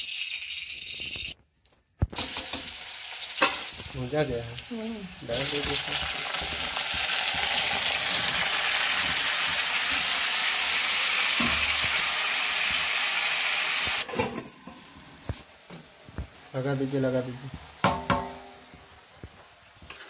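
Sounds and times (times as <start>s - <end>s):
vegetables sizzling in hot oil: 2.1s - 20.0s.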